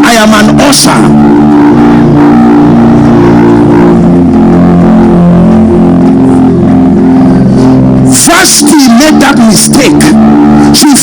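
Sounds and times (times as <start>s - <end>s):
sustained musical drone chords: 0.0s - 11.0s.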